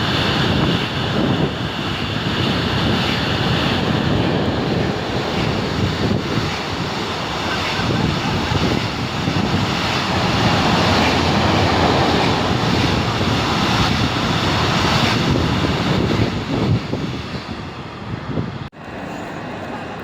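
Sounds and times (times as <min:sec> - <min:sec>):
train rumble: 0:00.0 - 0:20.0
wind buffeting microphone: 0:00.0 - 0:20.0.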